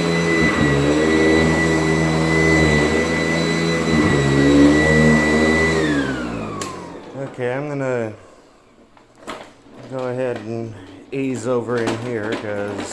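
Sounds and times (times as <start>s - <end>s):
vacuum cleaner whine: 0.0s - 12.9s.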